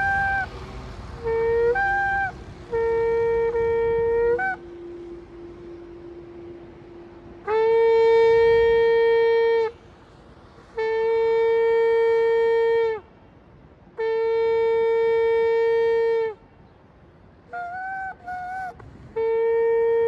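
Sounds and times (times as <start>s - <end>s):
shofar blasts: 0.0s - 0.6s, 1.2s - 9.8s, 10.7s - 13.0s, 14.0s - 16.4s, 17.6s - 20.0s.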